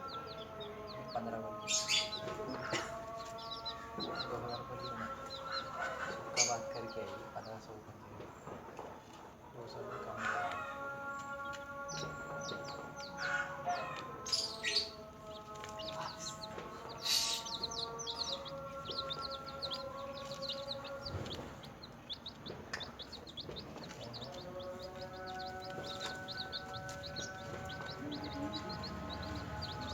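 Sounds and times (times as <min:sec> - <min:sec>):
background music: 0:00.0 - 0:08.0, 0:09.6 - 0:29.9
chicks peeping: 0:00.0 - 0:29.9.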